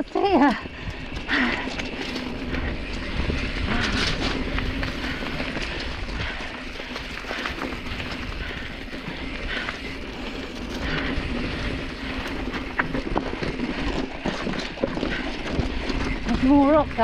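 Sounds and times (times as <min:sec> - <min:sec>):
bike frame and chain clicking: 0:00.0 - 0:17.0
mountain bike rattling: 0:00.0 - 0:17.0
tyres crunching over dirt and stones: 0:00.2 - 0:17.0.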